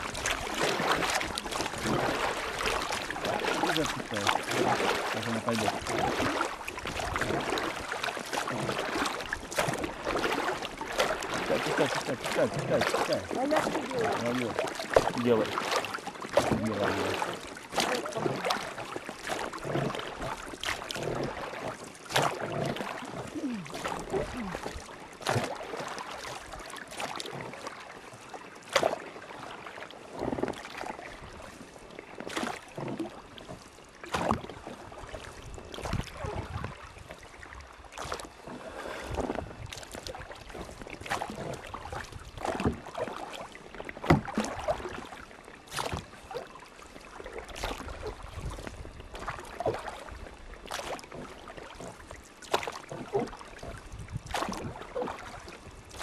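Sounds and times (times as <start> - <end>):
oars splashing and knocking: 0.0 - 56.0
rushing water: 0.0 - 56.0.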